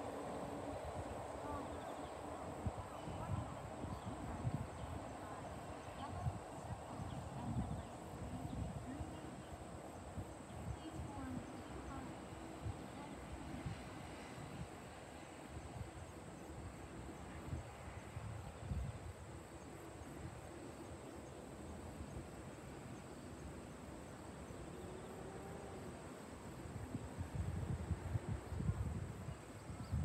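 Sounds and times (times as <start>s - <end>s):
faint insect chirring: 0.0s - 30.0s
wind rumbling on microphone: 0.0s - 30.0s.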